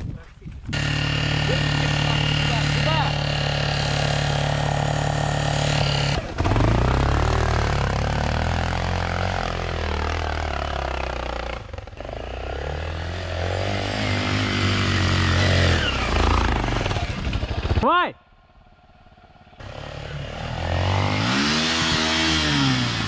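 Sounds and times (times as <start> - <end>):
dirt bike engine revving: 0.7 - 17.9, 19.2 - 23.0.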